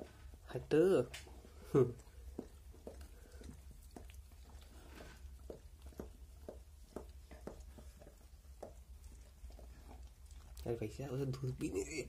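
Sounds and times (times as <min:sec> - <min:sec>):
puppies nursing wet clicks: 0:00.0 - 0:12.0.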